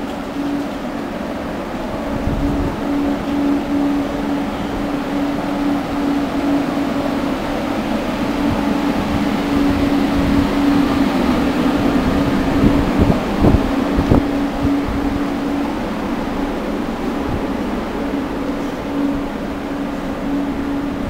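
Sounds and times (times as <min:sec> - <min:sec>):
idling train droning hum: 0:00.0 - 0:21.0.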